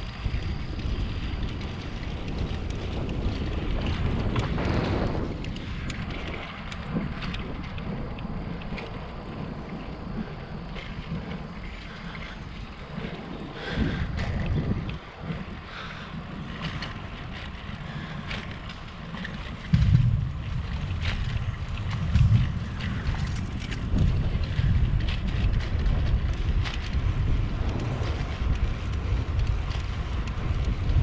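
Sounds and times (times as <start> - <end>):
wheels rolling on concrete: 0.0 - 31.0
wind buffeting microphone: 0.0 - 31.0.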